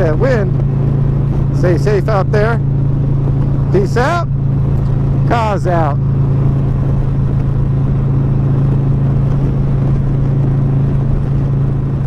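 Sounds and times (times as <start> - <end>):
motorcycle engine cruising: 0.0 - 12.0
wind on microphone: 0.0 - 12.0.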